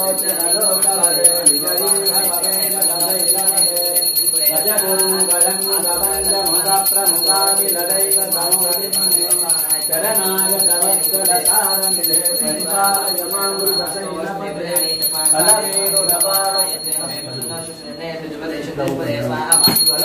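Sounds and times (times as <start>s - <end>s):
bell ringing: 0.0s - 18.4s, 19.5s - 20.0s.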